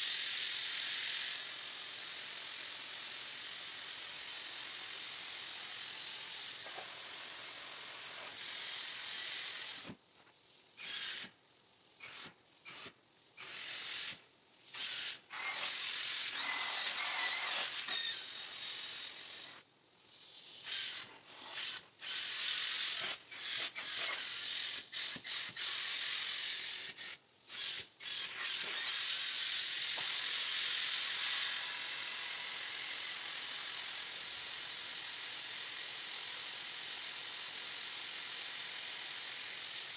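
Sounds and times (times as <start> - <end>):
vacuum hose hissing and whistling: 0.0 - 11.4, 12.0 - 39.9.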